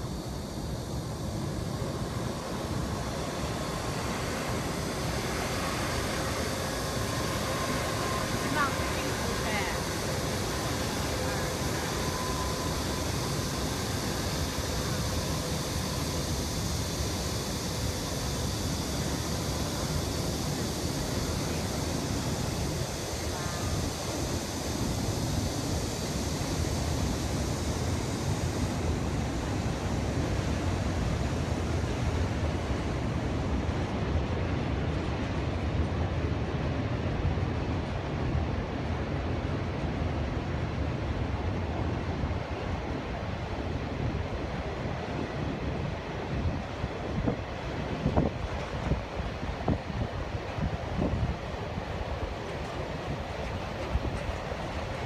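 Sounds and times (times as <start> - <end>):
freight train rolling across bridge: 0.0 - 55.0.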